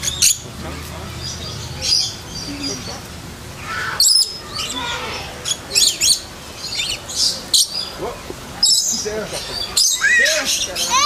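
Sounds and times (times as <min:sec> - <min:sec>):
parrots screeching and chirping: 0:00.0 - 0:00.5, 0:01.2 - 0:03.0, 0:03.6 - 0:11.0.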